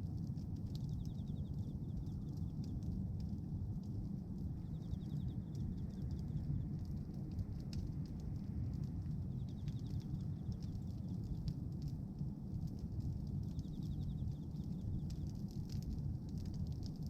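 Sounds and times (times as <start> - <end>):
bonfire flames rushing: 0.0 - 17.0
fire crackles and pops: 0.0 - 17.0.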